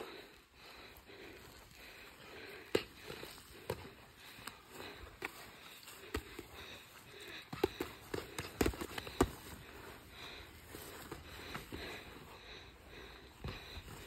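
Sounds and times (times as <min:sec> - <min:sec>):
feet shuffling: 0:00.0 - 0:14.0
sharp breaths: 0:00.0 - 0:14.0.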